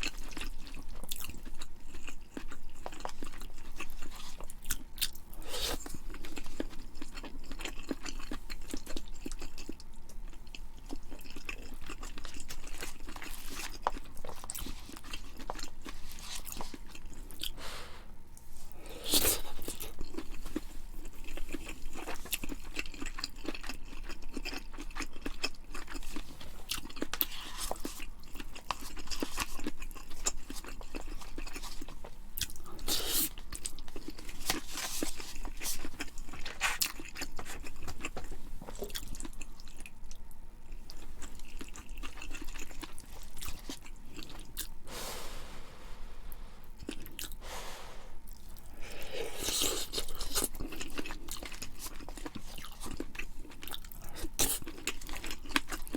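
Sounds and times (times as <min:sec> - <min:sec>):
person chewing crunchy food: 0:00.0 - 0:17.7, 0:18.7 - 0:55.9.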